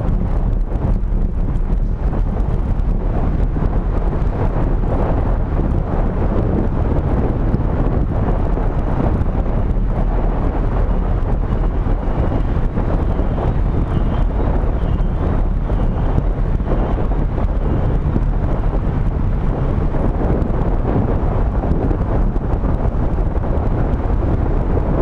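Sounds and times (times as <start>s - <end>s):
low vehicle and road rumble: 0.0s - 25.0s
wind on microphone: 0.0s - 25.0s.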